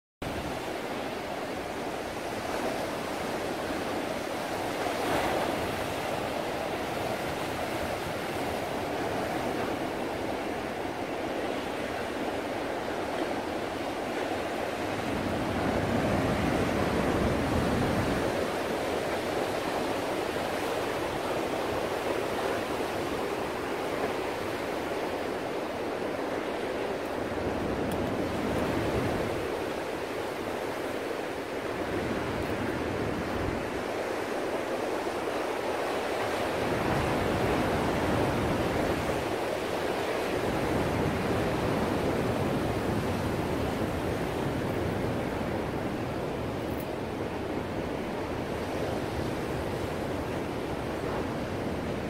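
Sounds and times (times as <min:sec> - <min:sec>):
ocean waves breaking: 0:00.2 - 0:52.0.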